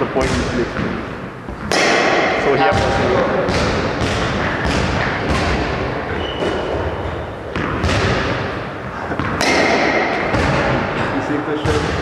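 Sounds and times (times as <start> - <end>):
balls thudding off walls: 0.0 - 12.0.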